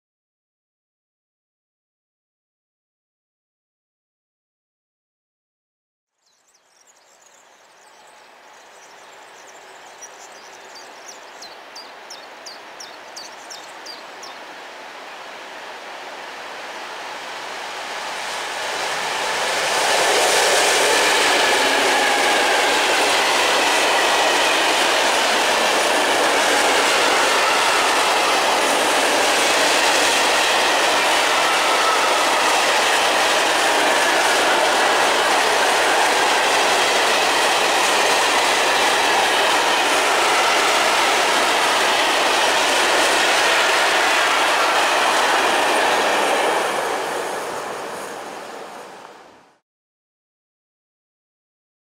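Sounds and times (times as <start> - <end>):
diesel locomotive engine: 6.9 - 49.6.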